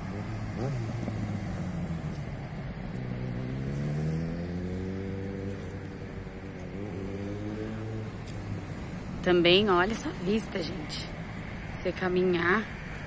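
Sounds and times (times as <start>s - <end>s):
passing vehicle engine: 0.0s - 13.0s
steady low traffic drone: 0.0s - 13.0s.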